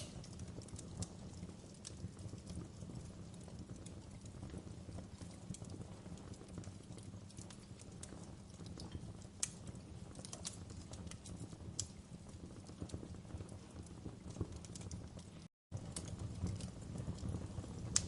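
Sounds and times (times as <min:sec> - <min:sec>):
logs crackling and popping: 0:00.0 - 0:18.0
wood fire burning: 0:00.0 - 0:18.0.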